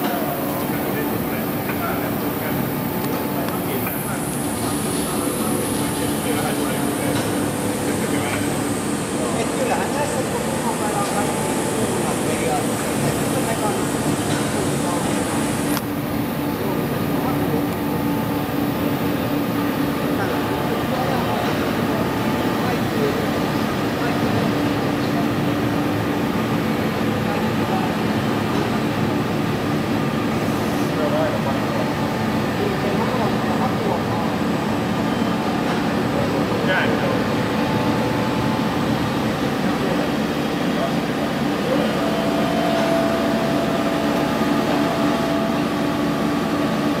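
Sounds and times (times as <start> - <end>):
boring mill humming: 0.0 - 47.0
high machine whine: 0.0 - 47.0.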